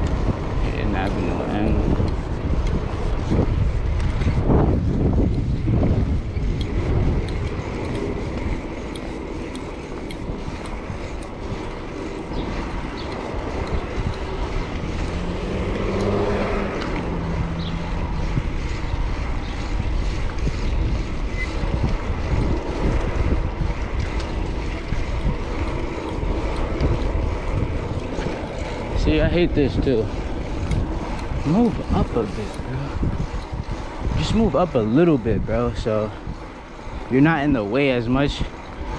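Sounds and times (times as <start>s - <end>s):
city traffic rumble: 0.0s - 38.9s
motor vehicle passing: 0.0s - 38.9s
wind buffeting microphone: 0.0s - 38.9s.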